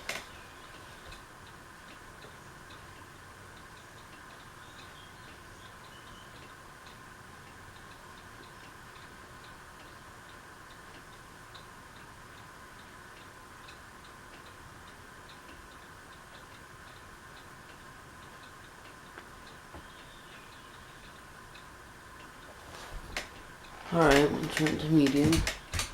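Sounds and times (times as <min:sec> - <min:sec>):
ceiling fan motor hum: 0:00.0 - 0:25.9
fan ticking: 0:00.0 - 0:25.9.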